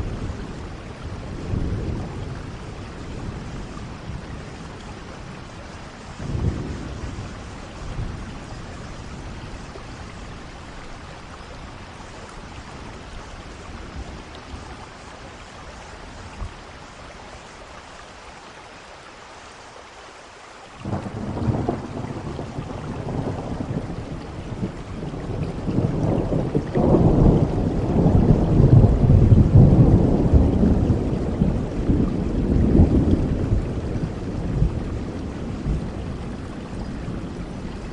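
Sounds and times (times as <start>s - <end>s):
thunder rumbling: 0.0s - 15.0s, 20.8s - 37.9s
steady rain: 0.0s - 37.9s.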